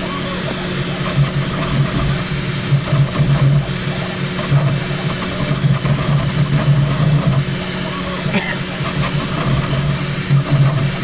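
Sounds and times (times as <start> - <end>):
steady mechanical hum: 0.0 - 11.0
stepper motors buzzing: 0.0 - 11.0.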